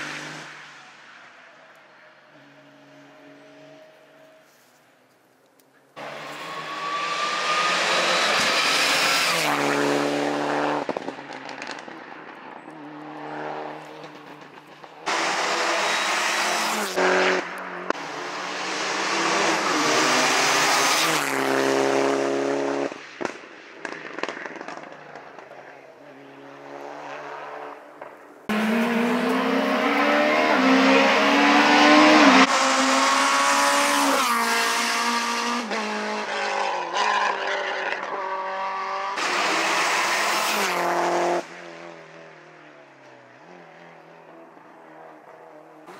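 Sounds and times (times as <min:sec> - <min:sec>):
race cars accelerating past: 0:06.0 - 0:23.0, 0:24.1 - 0:45.9.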